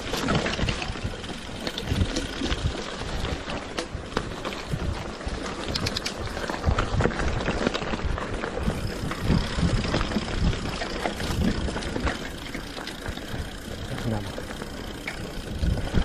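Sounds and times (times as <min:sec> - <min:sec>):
bike rattling and knocking: 0:00.0 - 0:16.0
bike tyres rolling on dirt: 0:00.0 - 0:16.0.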